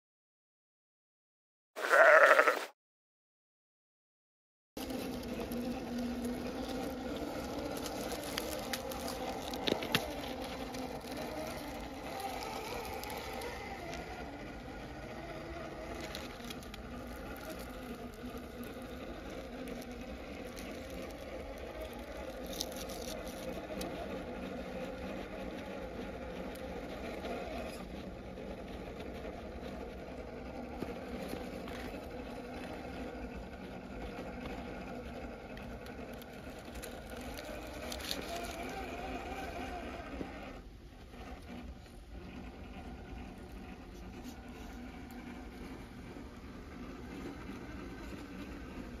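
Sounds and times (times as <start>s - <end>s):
electric motor whirring: 4.8s - 49.0s.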